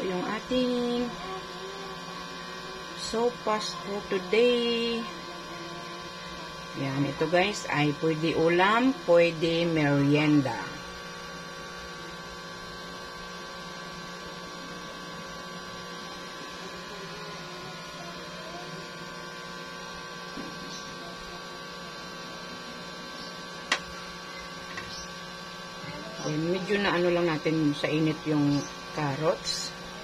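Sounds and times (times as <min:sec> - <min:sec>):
steady multi-tone hum: 0:00.0 - 0:30.0.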